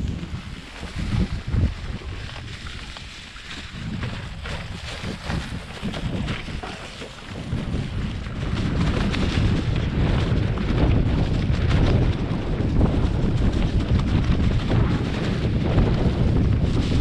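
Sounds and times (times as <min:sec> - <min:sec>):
bike rattling over bumps: 0:00.0 - 0:17.0
wind buffeting microphone: 0:00.0 - 0:17.0.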